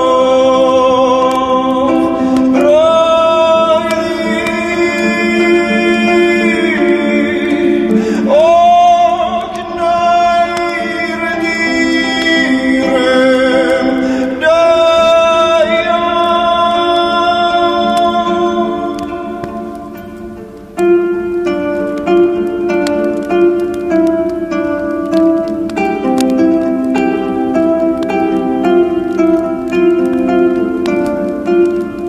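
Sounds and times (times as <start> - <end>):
instrumental accompaniment: 0.0 - 32.0
person singing long notes: 0.0 - 32.0.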